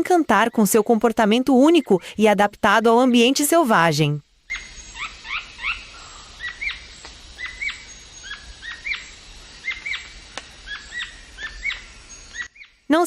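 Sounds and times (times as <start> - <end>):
birds chirping: 0.0 - 13.0
faint steady hiss: 0.0 - 13.0.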